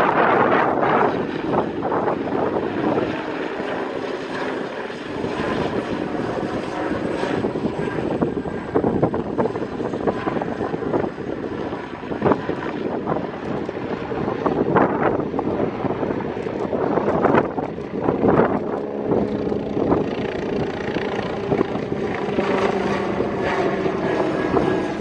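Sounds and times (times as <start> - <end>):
helicopter flying past: 0.0 - 25.0.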